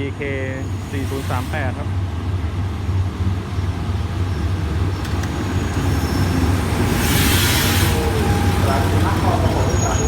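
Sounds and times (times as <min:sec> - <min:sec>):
diesel locomotive rumbling: 0:00.0 - 0:10.0.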